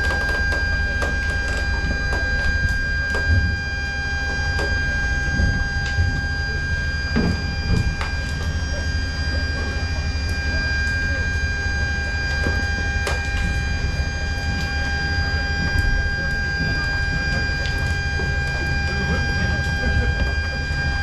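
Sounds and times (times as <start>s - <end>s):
machinery rumble and whine: 0.0s - 21.0s.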